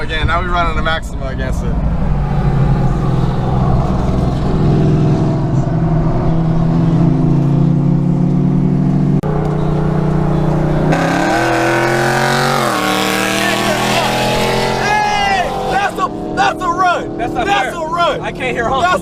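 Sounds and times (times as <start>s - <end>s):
car engine at full throttle: 0.0s - 19.0s.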